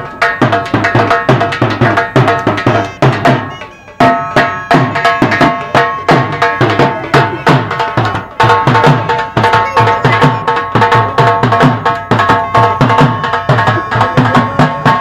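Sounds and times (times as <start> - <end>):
hand drum beating: 0.0 - 15.0
held melody: 0.0 - 15.0.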